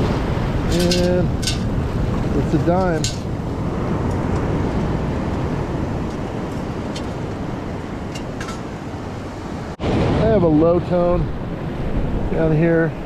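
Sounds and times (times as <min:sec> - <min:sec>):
shallow surf washing over sand: 0:00.0 - 0:13.0
wind rumbling on microphone: 0:00.0 - 0:13.0.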